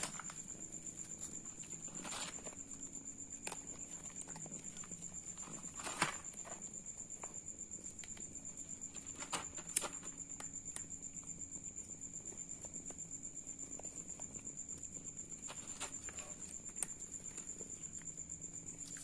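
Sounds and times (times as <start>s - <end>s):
insect chirping trill: 0.0s - 19.0s.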